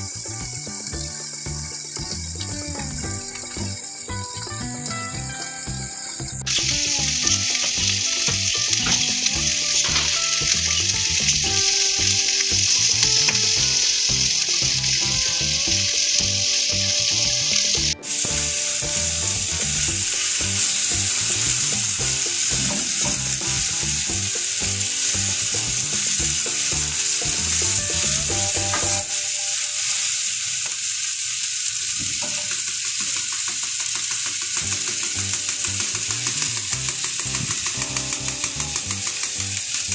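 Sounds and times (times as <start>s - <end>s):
potato strips sizzling in oil: 0.0s - 39.9s.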